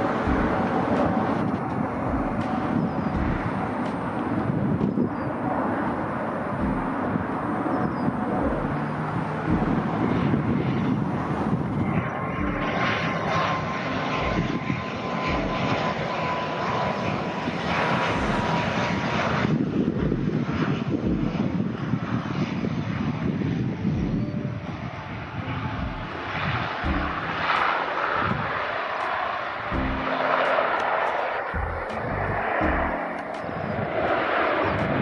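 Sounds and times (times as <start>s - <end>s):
jet engines climbing: 0.0s - 35.0s
turboprop engines and propellers: 0.0s - 35.0s.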